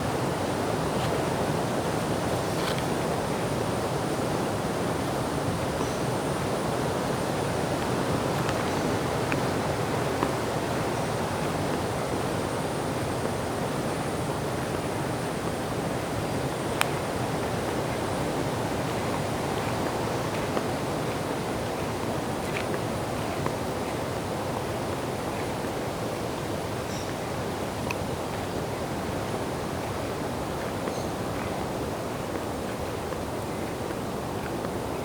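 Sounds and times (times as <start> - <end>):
water rushing: 0.0 - 35.0.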